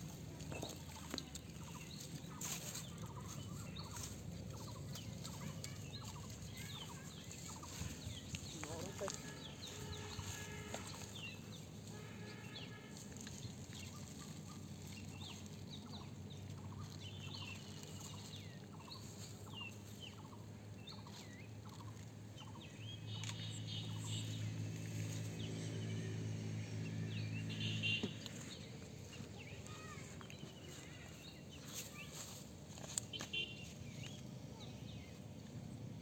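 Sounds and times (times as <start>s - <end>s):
birds chirping: 0.0s - 35.5s
low motor hum: 0.0s - 36.0s.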